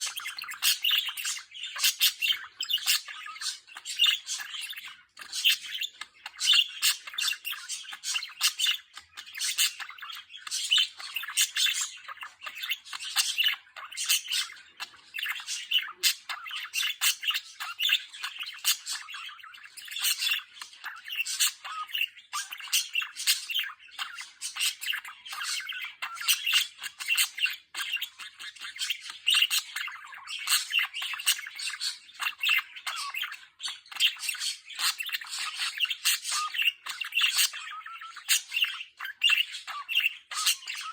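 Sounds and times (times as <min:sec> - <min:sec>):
budgerigar warbling chatter: 0:00.0 - 0:40.9.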